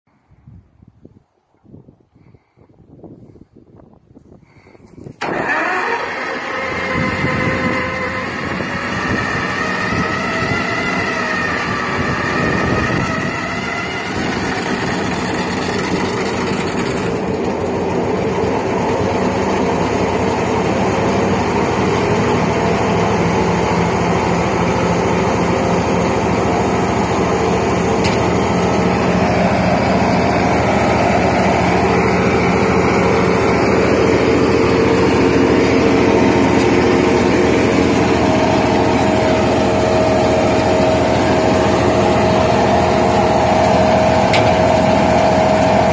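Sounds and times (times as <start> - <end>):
wood chipper running: 5.2 - 45.9.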